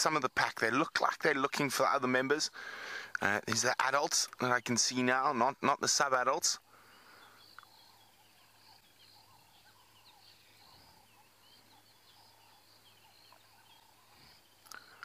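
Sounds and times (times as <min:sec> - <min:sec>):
animals chirping and twittering: 0:00.0 - 0:15.0.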